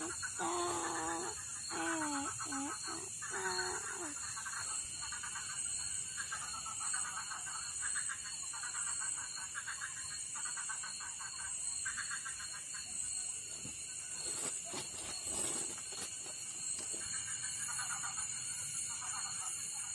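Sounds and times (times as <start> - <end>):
frogs calling: 0.0 - 19.9
high insect drone: 0.0 - 19.9.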